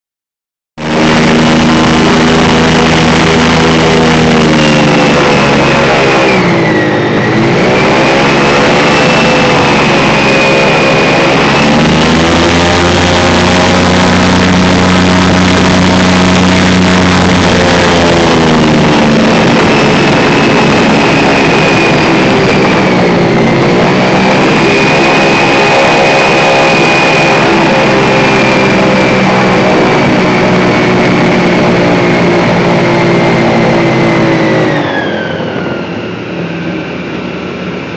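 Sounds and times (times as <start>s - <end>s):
airboat engine and propeller: 0.8s - 37.9s.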